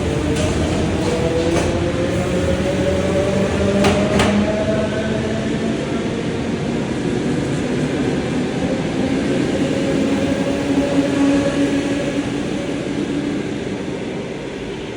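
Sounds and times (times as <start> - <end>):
train cars rumbling on rails: 0.0 - 14.9.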